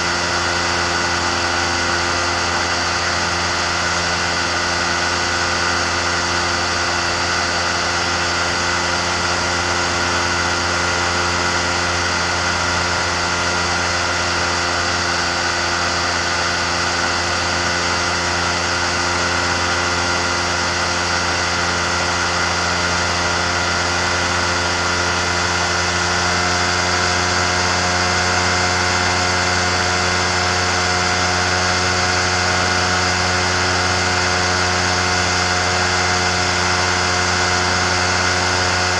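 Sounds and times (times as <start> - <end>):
aircraft engine and propeller drone: 0.0 - 38.9.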